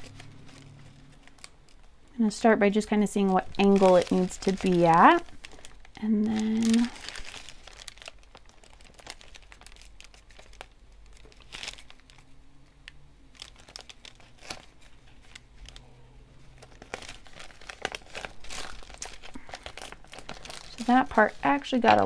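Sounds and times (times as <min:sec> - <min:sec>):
paper and vinyl sheet crinkling: 0:00.0 - 0:12.4, 0:13.3 - 0:22.0.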